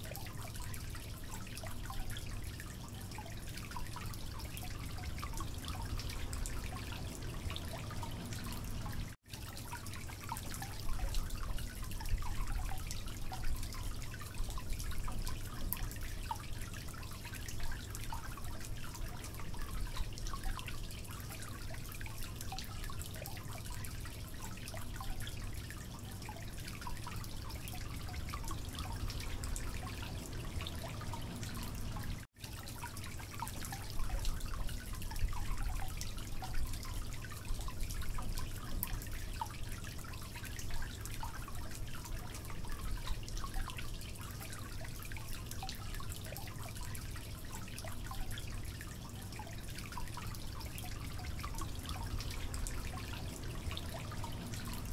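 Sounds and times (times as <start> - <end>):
water dripping and trickling: 0.0 - 54.9.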